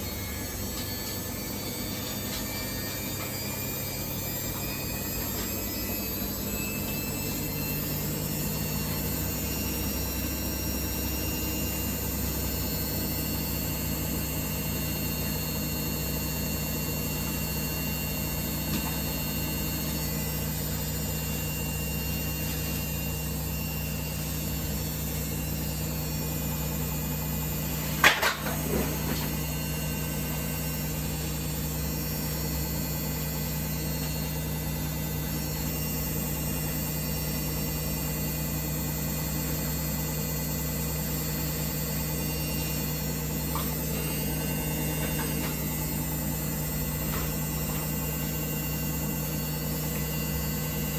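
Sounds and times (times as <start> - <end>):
washing machine humming: 0.0 - 50.9.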